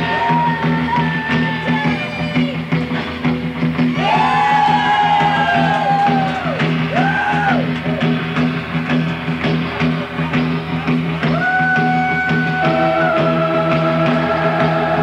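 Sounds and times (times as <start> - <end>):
drum beat: 0.0 - 15.0
rock band playing live: 0.0 - 15.0.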